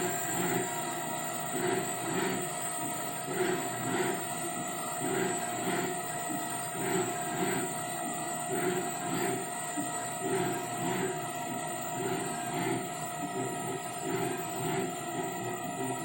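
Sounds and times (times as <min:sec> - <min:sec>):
servo motors surging: 0:00.0 - 0:16.0
spindle whine: 0:00.0 - 0:16.0.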